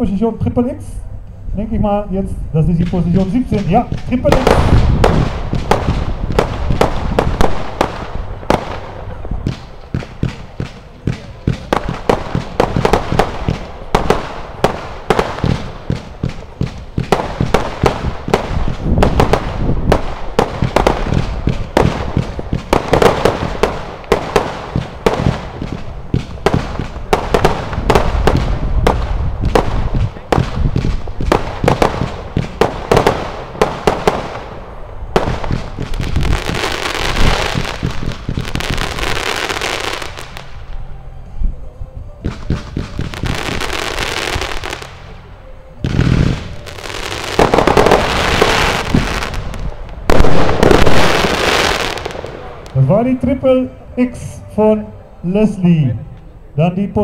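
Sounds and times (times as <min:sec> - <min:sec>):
firework crackling: 0:02.6 - 0:41.2, 0:42.1 - 0:54.1
fireworks shots and bangs: 0:02.7 - 0:40.8, 0:42.1 - 0:53.6.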